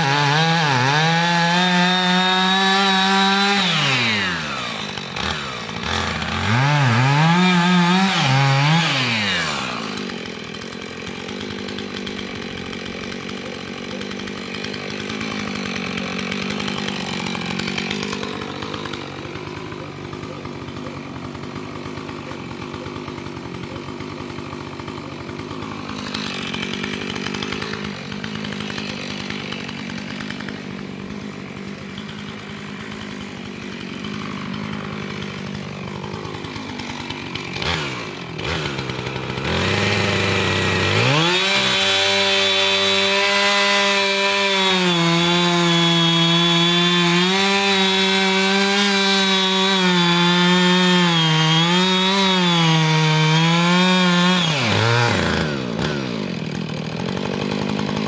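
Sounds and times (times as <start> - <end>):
chainsaw revving and cutting: 0.0 - 58.0.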